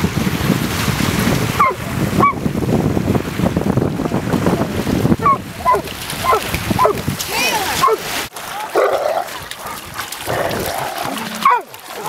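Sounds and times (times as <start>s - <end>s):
waves washing on pebbles: 0.0s - 12.0s
wind buffeting microphone: 0.0s - 12.0s.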